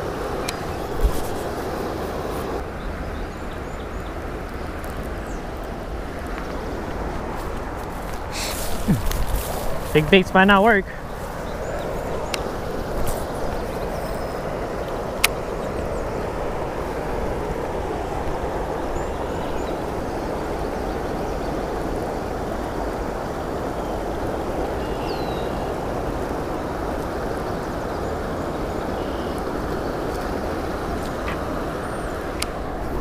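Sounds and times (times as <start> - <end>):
water rushing over weir: 0.0 - 33.0.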